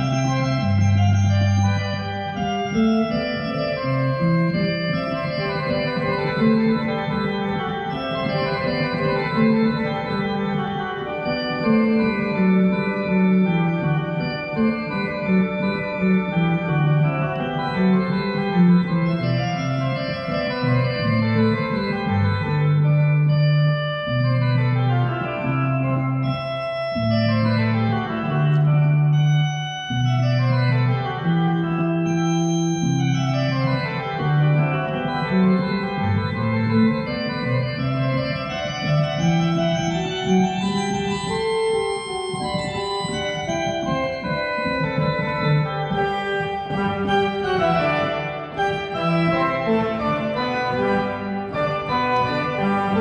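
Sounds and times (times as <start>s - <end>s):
organ playing: 0.0s - 53.0s.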